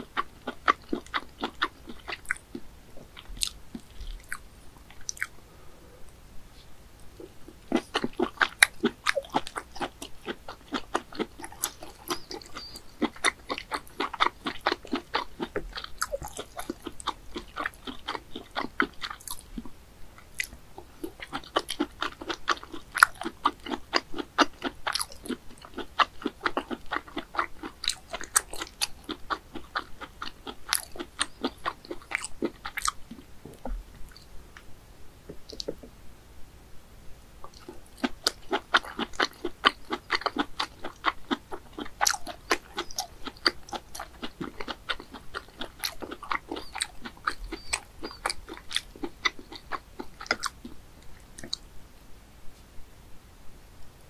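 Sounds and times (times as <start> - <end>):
chewing clicking mouth sounds: 0.0 - 2.6, 3.2 - 5.4, 7.1 - 34.7, 37.4 - 51.6.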